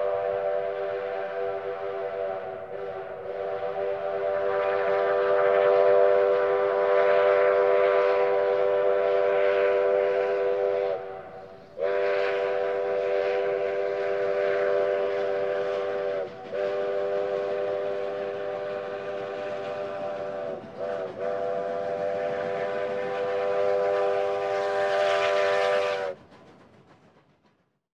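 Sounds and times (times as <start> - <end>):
steam whistle blasts: 0.0 - 26.2.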